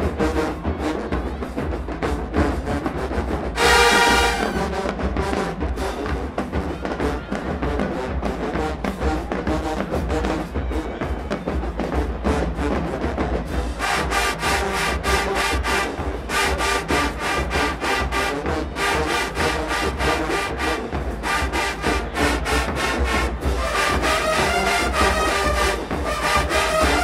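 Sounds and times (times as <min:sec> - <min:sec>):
brass horns and sousaphones: 0:00.0 - 0:27.0
drumline beat: 0:00.0 - 0:27.0.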